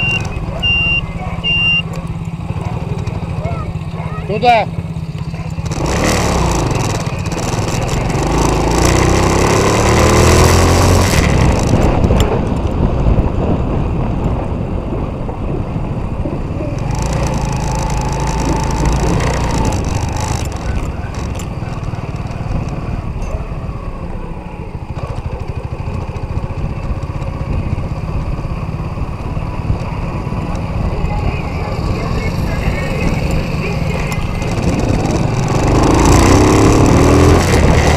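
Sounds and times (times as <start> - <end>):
quad bike engine revving: 0.0 - 12.4, 16.6 - 37.9.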